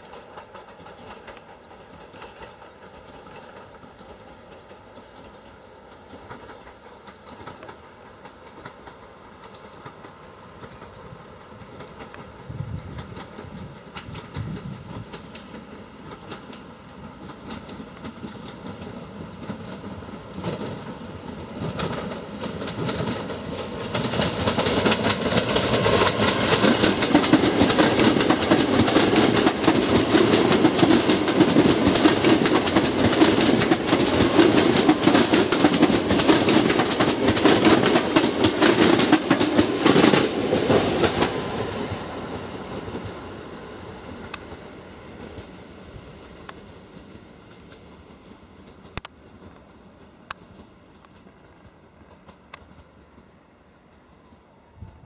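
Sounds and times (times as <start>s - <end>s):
train wheels clattering over rail joints: 0.0s - 53.3s.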